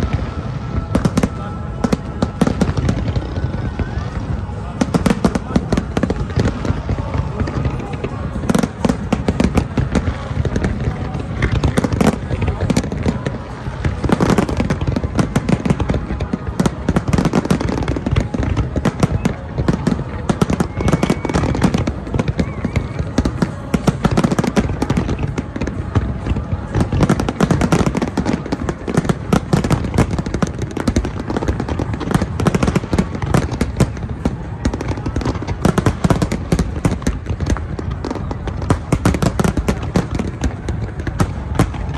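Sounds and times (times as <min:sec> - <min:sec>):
continuous low rumble: 0:00.0 - 0:41.9
fireworks bangs and crackles: 0:00.0 - 0:41.9.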